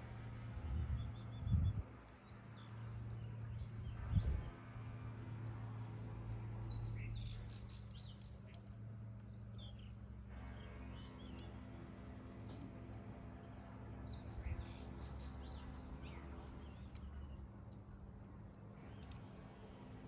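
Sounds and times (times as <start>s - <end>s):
wood fire rumbling and crackling: 0.0s - 20.0s.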